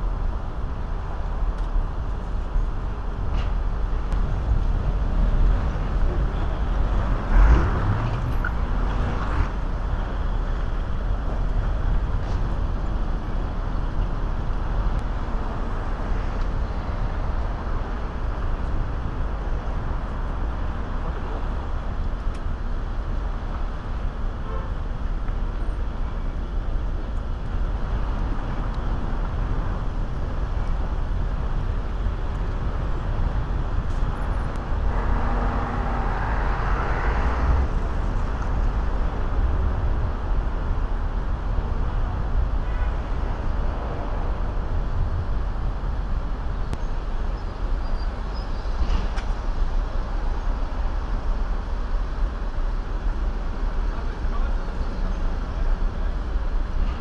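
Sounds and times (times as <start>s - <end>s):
cars passing: 0.0s - 57.0s
city street traffic rumble: 0.0s - 57.0s.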